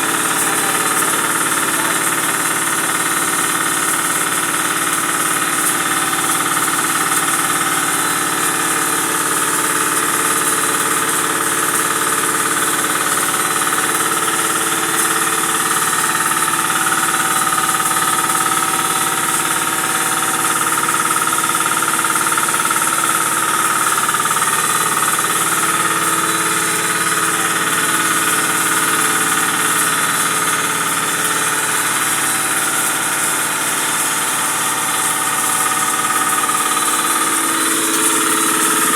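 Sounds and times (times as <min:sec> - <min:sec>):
high machine whine: 0:00.0 - 0:38.9
milling machine running: 0:00.0 - 0:38.9.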